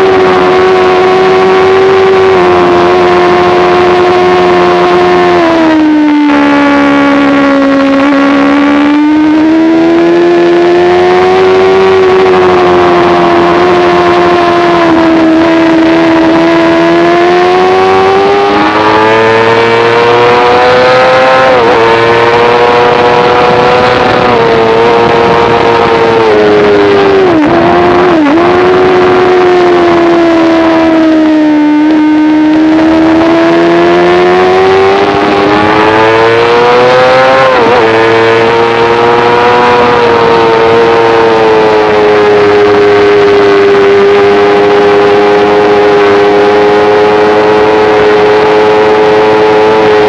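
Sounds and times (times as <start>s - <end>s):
motorcycle engine at high revs: 0.0s - 50.0s.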